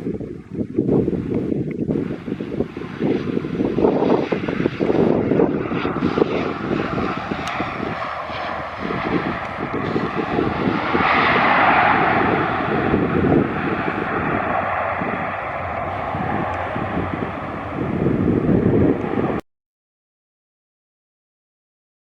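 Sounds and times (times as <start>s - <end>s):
airliner engine noise: 0.0s - 19.4s
wind buffeting microphone: 0.0s - 19.4s.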